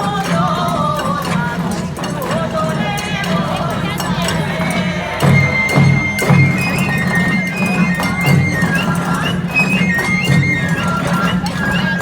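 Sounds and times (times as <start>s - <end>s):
drum hits: 0.0s - 12.0s.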